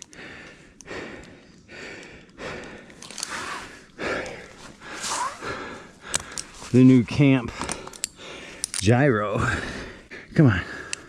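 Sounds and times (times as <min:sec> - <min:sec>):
person breathing hard: 0:00.0 - 0:06.8, 0:07.4 - 0:08.8, 0:09.4 - 0:11.0.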